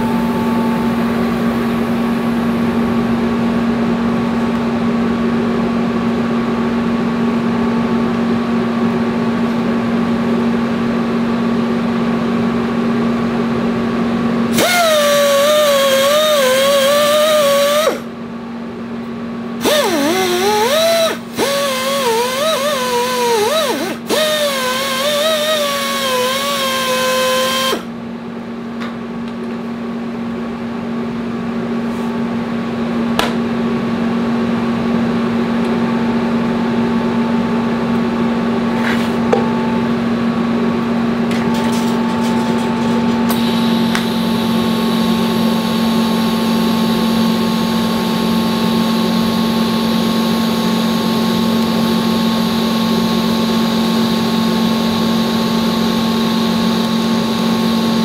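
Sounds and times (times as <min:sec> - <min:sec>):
welding arc whine and hiss: 0:00.0 - 0:18.2, 0:19.3 - 0:58.0
welder electrical hum: 0:00.0 - 0:58.0.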